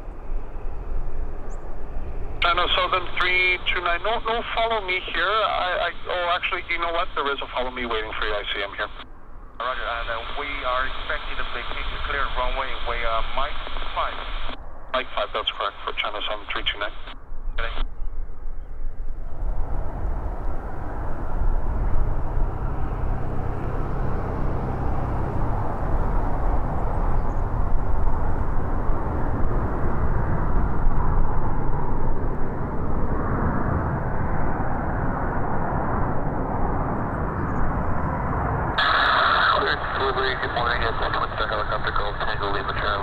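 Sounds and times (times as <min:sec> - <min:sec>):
jet engines rumbling and rushing: 0:00.0 - 0:43.0
low hum: 0:00.0 - 0:43.0.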